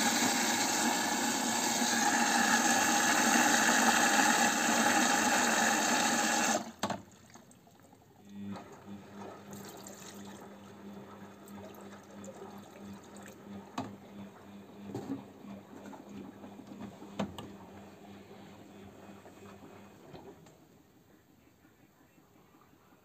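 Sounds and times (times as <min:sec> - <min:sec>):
water rushing in washing machine: 0:00.0 - 0:20.5.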